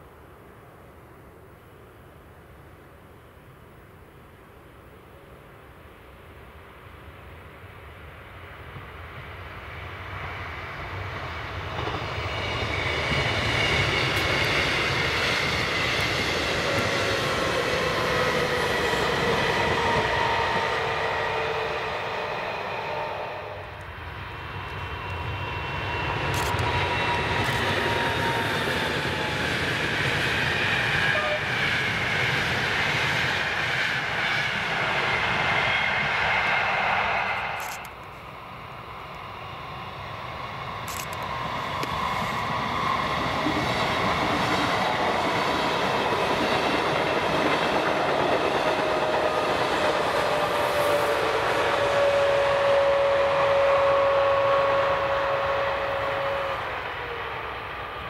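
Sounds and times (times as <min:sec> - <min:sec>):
train passing at speed: 0:00.0 - 0:58.0.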